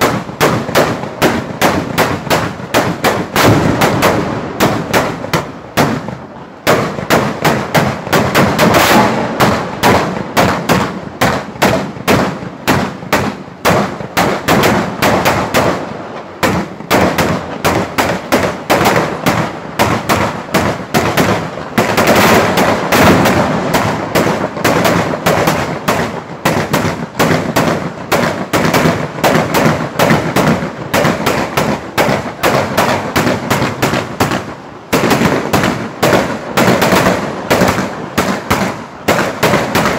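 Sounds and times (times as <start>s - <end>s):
rapid string of sharp bangs: 0.0s - 39.9s.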